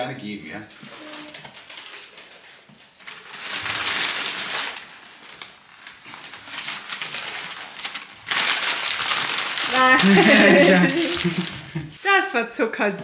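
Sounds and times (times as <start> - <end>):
wrapping paper rustling: 0.5 - 12.3.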